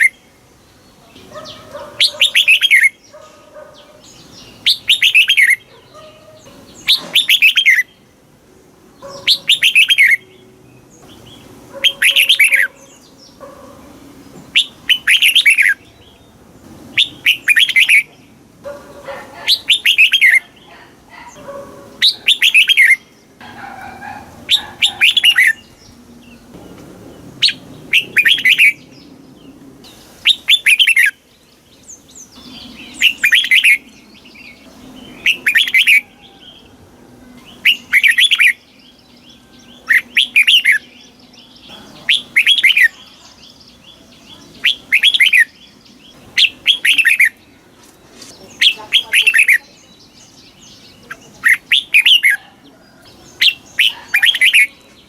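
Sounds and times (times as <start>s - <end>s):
bulbul warbling song: 1.1s - 8.0s, 9.0s - 13.6s, 14.5s - 16.2s, 16.9s - 18.4s, 19.4s - 29.2s, 29.8s - 31.3s, 32.0s - 36.7s, 37.3s - 55.0s.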